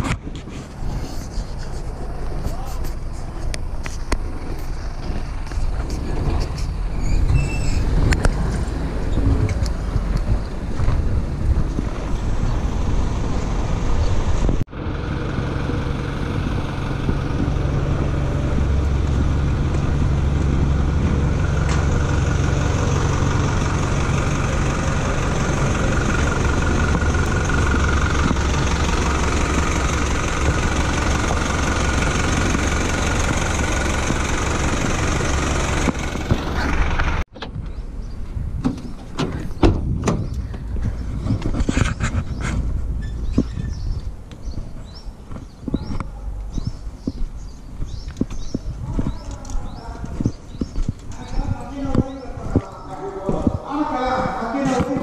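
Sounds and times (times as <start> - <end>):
road and wind noise: 0.0 - 55.0
truck engine running: 0.0 - 55.0.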